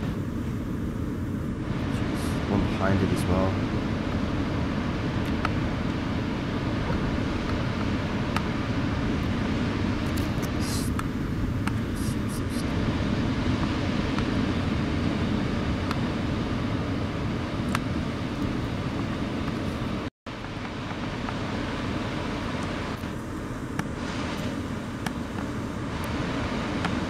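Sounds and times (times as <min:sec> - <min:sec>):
wind: 0:00.0 - 0:27.0
breaking surf: 0:01.5 - 0:27.0.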